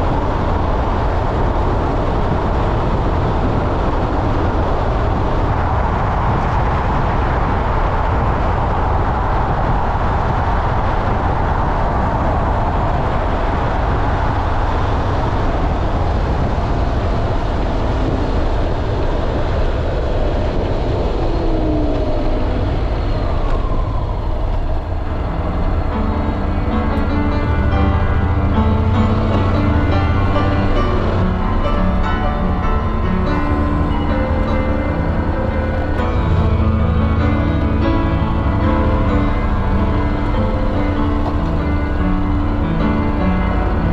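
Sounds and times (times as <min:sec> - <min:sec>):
falling engine whines: 0:00.0 - 0:43.9
motorcycle engine rumble: 0:00.0 - 0:43.9
road noise: 0:00.0 - 0:43.9
wind rush: 0:00.0 - 0:43.9.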